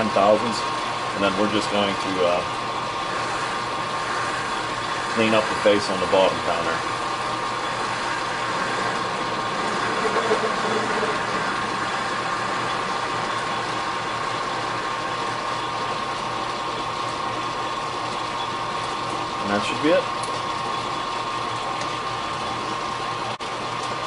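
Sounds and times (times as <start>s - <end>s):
machine tool whining: 0.0s - 23.4s.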